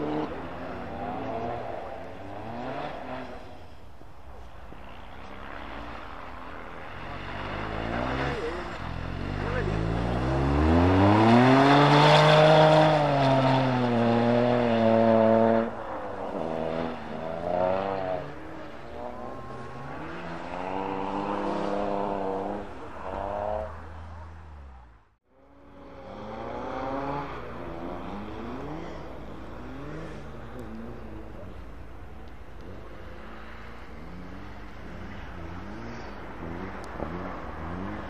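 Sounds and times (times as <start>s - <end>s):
rally car engine revving: 0.0s - 24.8s, 25.8s - 38.0s
distant car engines: 0.0s - 38.0s.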